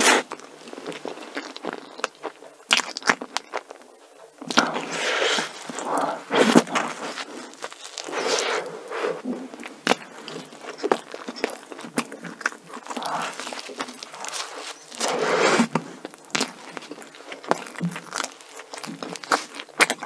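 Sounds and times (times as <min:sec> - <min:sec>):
biting a doughnut: 0:00.0 - 0:20.0
chewing and mouth sounds: 0:00.1 - 0:20.0.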